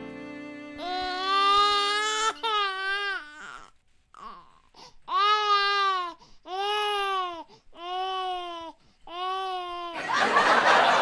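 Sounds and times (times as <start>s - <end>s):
baby crying: 0.8s - 10.1s.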